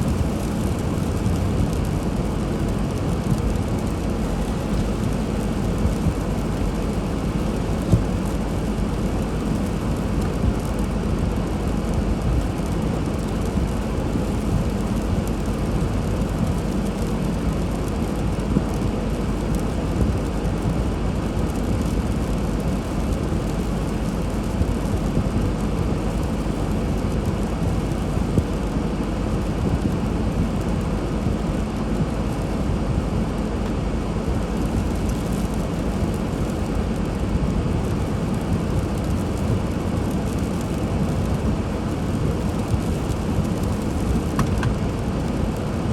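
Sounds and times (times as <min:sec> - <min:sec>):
car driving on snowy road: 0:00.0 - 0:45.9.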